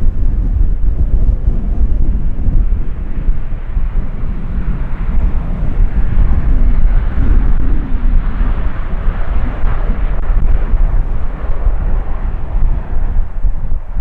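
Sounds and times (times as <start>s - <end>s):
jet engines rumbling: 0.0s - 14.0s
wind buffeting the microphone: 0.0s - 14.0s.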